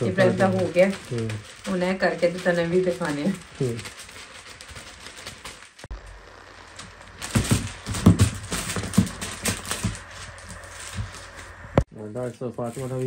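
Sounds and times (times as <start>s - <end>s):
foil wrapping paper crinkling: 0.0s - 13.0s.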